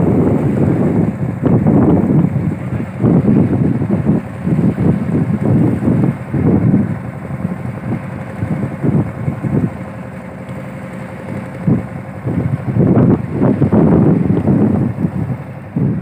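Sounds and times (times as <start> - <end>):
boat engine running: 0.0 - 16.0
wind buffeting microphone: 0.0 - 16.0.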